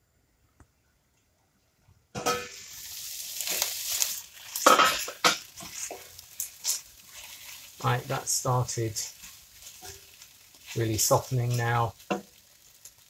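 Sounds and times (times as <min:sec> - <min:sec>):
onions sizzling in oil: 0:02.2 - 0:13.0.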